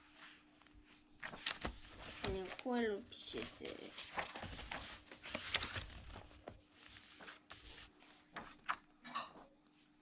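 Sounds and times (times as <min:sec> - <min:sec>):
book pages turning: 0:00.0 - 0:09.0.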